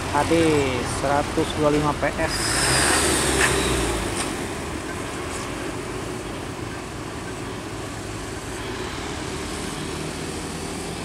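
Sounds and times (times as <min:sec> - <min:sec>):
bus driving away rumble: 0:00.0 - 0:11.0.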